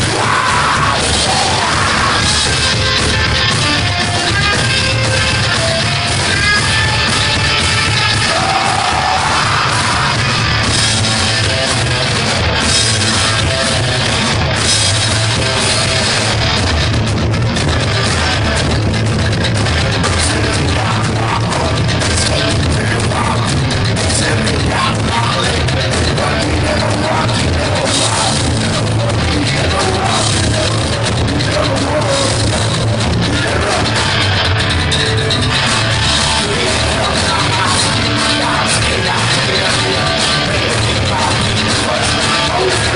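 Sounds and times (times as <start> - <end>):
drum kit: 0.0 - 42.9
electric guitar: 0.0 - 42.9
live rock band playing: 0.0 - 42.9
upright double bass: 0.0 - 42.9.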